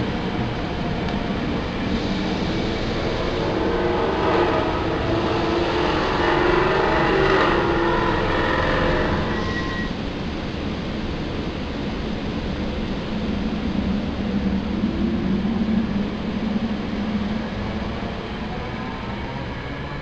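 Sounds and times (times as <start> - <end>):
train rushing noise: 0.0 - 20.0.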